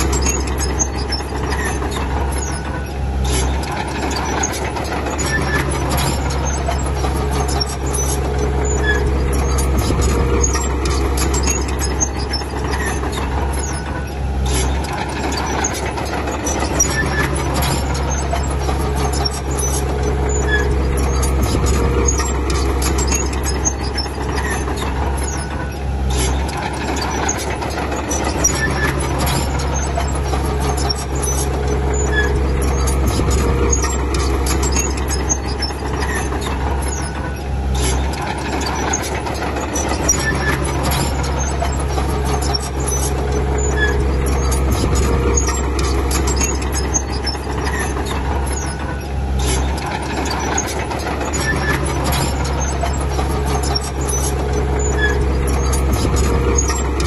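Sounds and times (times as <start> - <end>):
deeper engine tone: 0.0 - 57.0
diesel engine hum: 0.0 - 57.0.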